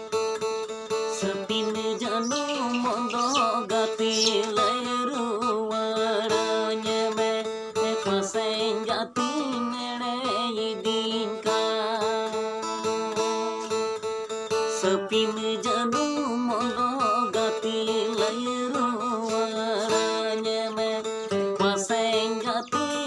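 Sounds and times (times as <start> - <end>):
strummed acoustic guitar: 0.0 - 23.0
man singing: 1.1 - 12.8, 14.7 - 23.0.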